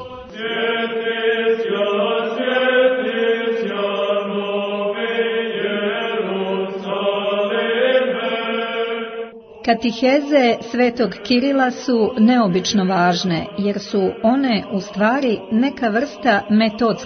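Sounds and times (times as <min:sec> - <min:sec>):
choir chanting long held notes: 0:00.0 - 0:17.0.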